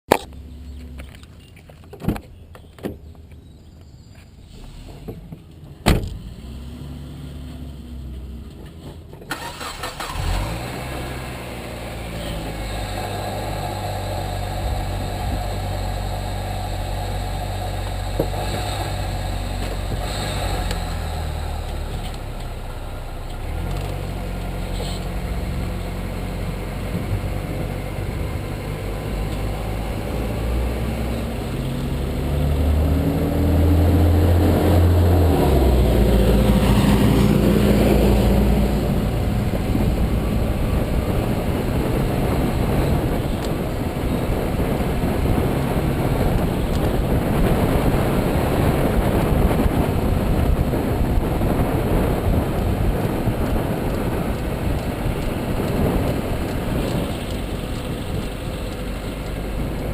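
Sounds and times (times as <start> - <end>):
road and tyre noise: 0.0 - 59.9
car engine accelerating: 6.1 - 59.9.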